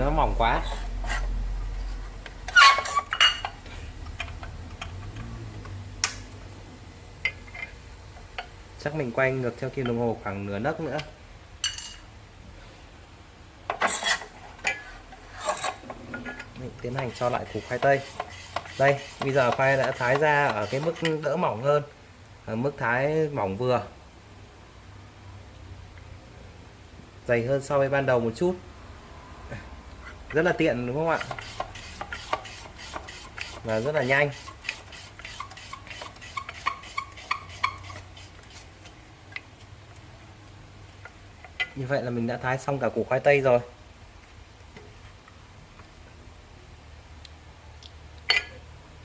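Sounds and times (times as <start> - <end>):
faint background hiss: 0.0 - 49.0.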